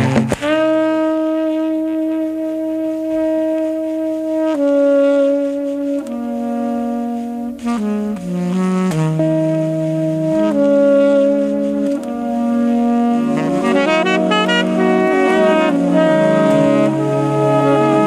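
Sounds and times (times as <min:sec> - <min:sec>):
slow melody of held notes: 0:00.0 - 0:18.0.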